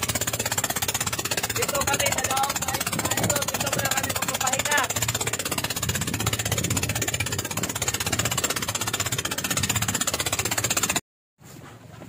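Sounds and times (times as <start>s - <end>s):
boat engine pulsing: 0.0s - 11.0s.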